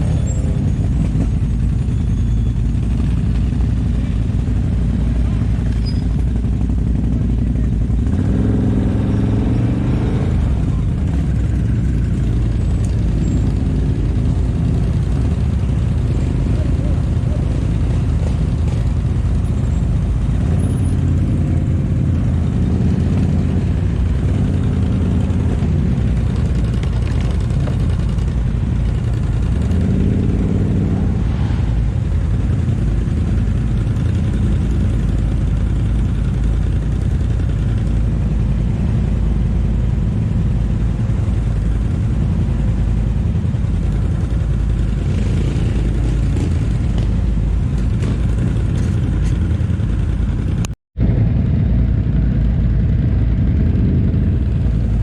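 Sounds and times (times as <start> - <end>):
atv engine running under load: 0.0 - 55.0.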